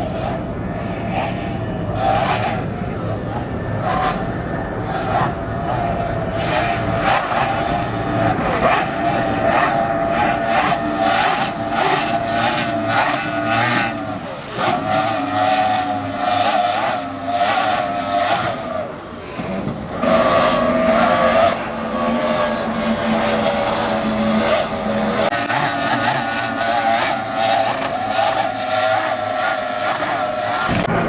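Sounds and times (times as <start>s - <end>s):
powerboat engines running hard: 0.0s - 31.0s.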